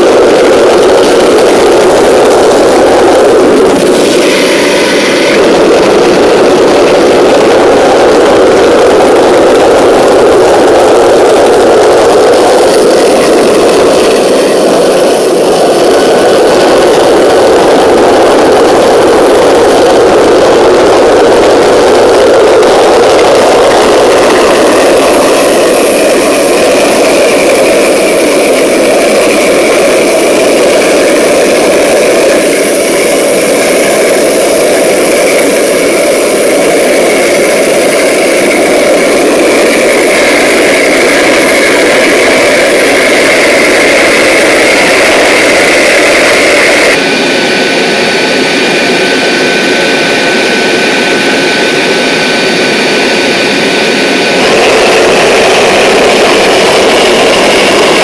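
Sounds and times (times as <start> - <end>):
gas turbine engine running: 0.0 - 58.0.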